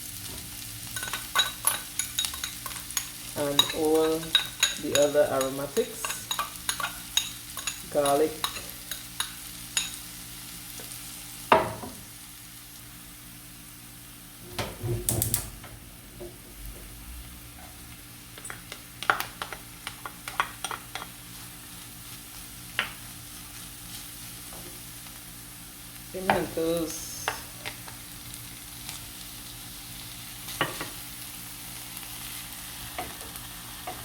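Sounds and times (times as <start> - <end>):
onions sizzling in oil: 0.0 - 34.0.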